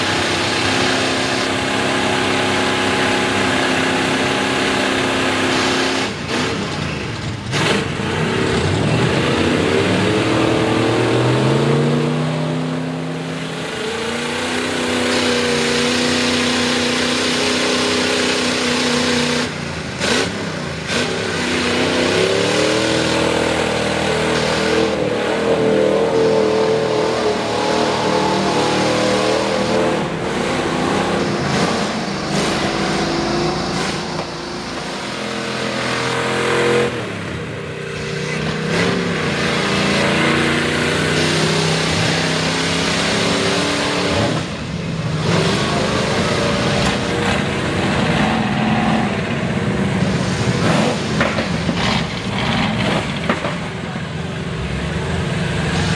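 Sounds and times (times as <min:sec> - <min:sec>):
truck engine revving hard: 0:00.0 - 0:55.9.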